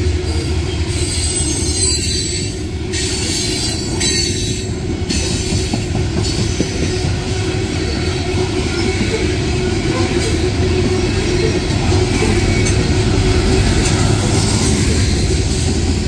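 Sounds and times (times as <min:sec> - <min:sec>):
freight wagons rumbling on track: 0:00.0 - 0:16.0.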